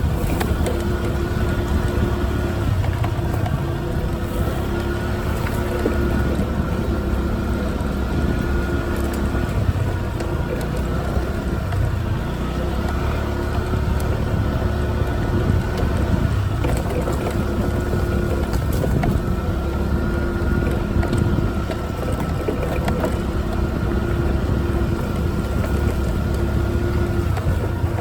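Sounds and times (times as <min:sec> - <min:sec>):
moped engine running: 0:00.0 - 0:28.0
wind noise on microphone: 0:00.0 - 0:28.0.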